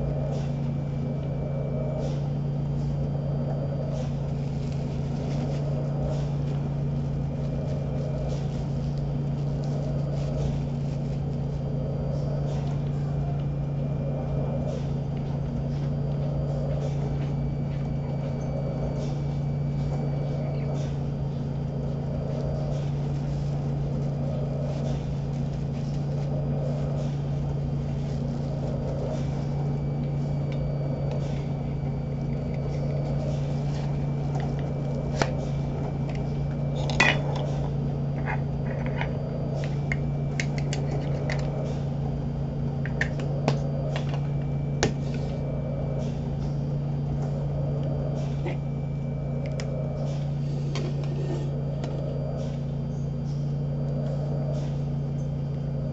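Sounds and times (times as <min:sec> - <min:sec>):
ventilator hum: 0:00.0 - 0:55.9.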